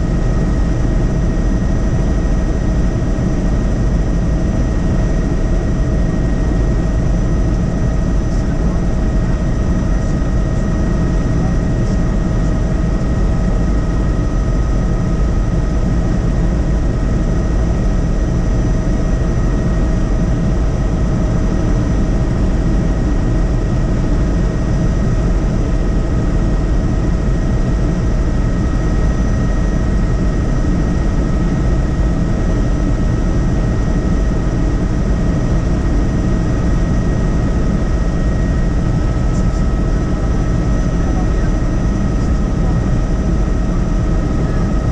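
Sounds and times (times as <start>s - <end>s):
helicopter rotor and engine drone: 0.0s - 44.9s
high turbine whine: 0.0s - 44.9s.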